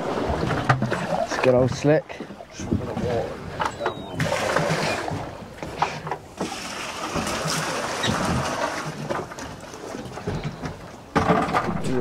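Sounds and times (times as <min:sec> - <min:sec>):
sea noise: 0:00.0 - 0:12.0
wind: 0:00.0 - 0:12.0.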